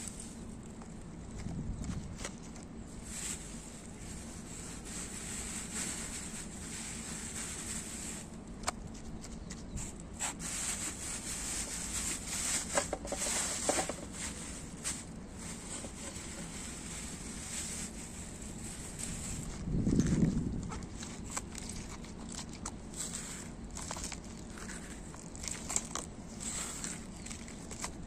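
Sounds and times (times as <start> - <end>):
plastic rustling and crinkling: 0.0 - 28.0.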